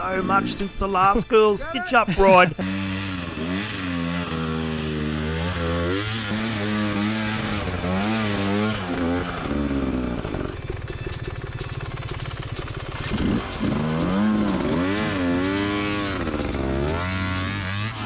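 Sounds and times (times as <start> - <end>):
dirt bike engine revving: 2.6 - 18.0.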